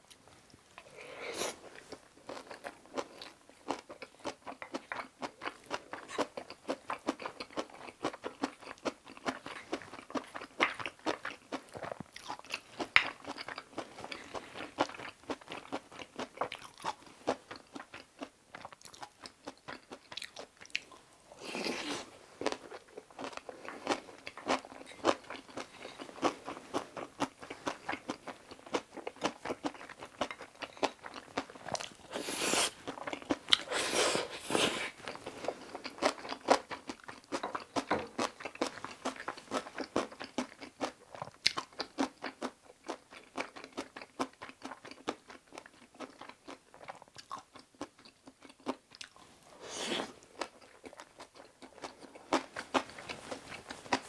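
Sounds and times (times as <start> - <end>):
food crunching: 0.1 - 54.0
close chewing with wet mouth clicks: 2.3 - 21.0, 22.4 - 32.0, 32.6 - 33.7, 35.0 - 49.2, 50.4 - 53.2.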